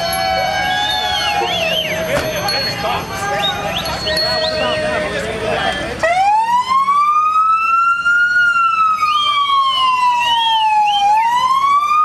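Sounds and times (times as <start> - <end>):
police siren wailing: 0.0 - 5.3, 6.0 - 12.0.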